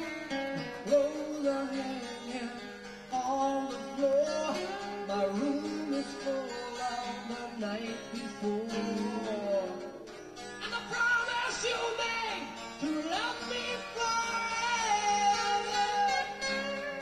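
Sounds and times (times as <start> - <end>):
guitar chords: 0.0 - 17.0
lead guitar melody with bent notes: 0.0 - 17.0.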